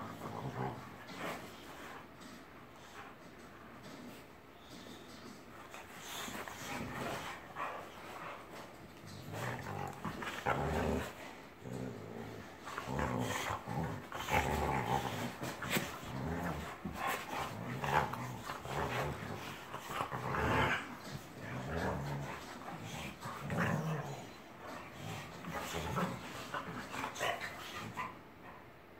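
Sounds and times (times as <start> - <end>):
dogs growling playfully: 0.0 - 4.2, 5.5 - 28.6.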